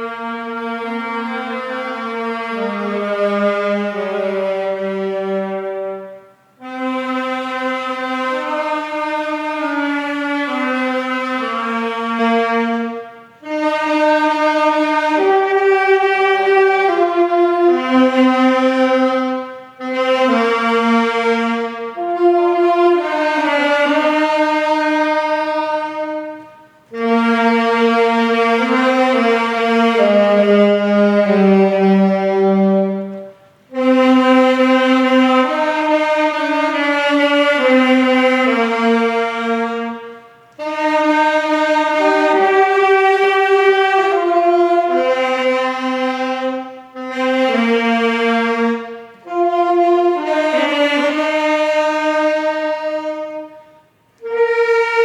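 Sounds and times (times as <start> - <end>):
slow wind instrument melody: 0.0 - 55.0.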